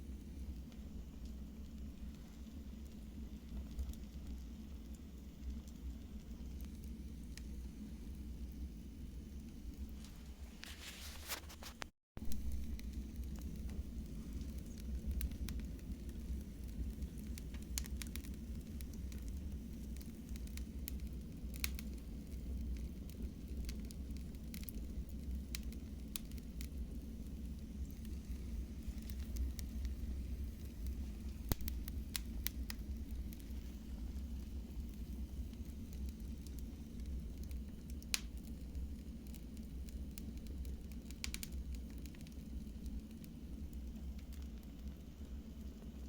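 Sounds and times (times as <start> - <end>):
low rumble of flames: 0.0 - 46.0
wood fire crackling and popping: 0.0 - 46.0.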